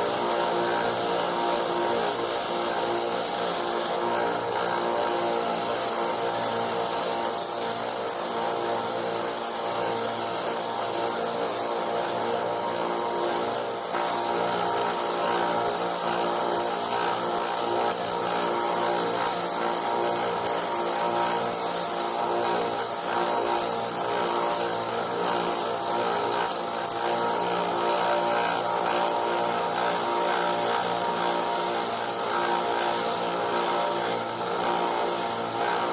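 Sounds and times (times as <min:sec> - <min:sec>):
electric belt grinder running: 0:00.0 - 0:35.9.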